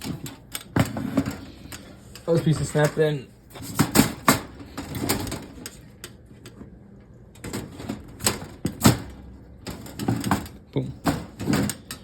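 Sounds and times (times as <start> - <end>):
plastic parts clicking and knocking: 0.0 - 6.7, 7.4 - 12.0.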